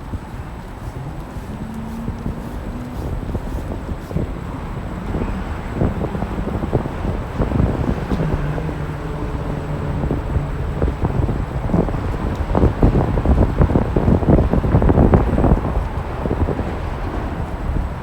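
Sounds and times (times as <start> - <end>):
faint low hum: 0.0 - 18.0
wind buffeting microphone: 0.0 - 18.0.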